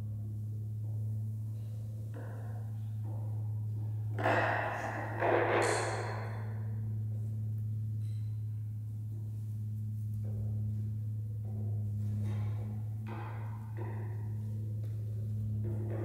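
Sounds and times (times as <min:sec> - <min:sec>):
low droning tone: 0:00.0 - 0:16.0.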